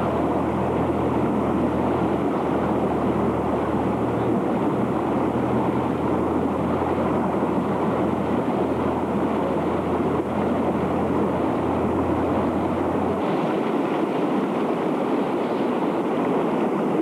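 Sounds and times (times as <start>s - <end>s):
floodwater rushing: 0.0s - 17.0s
low hum: 0.0s - 17.0s.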